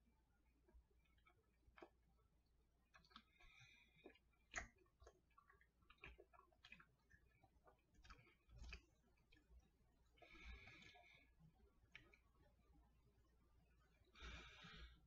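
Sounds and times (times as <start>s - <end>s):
soft chewing: 0.0s - 15.0s.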